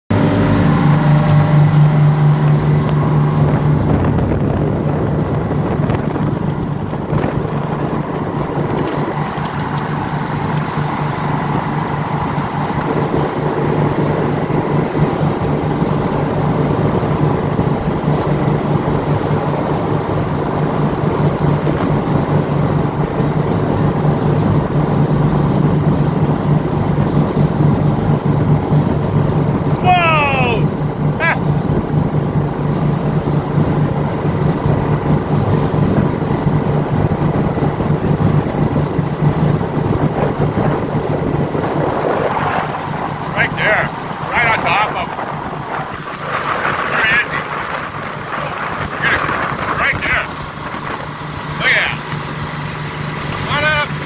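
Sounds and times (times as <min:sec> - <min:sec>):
boat engine running: 0:00.0 - 0:54.0
wind buffeting microphone: 0:00.1 - 0:54.0.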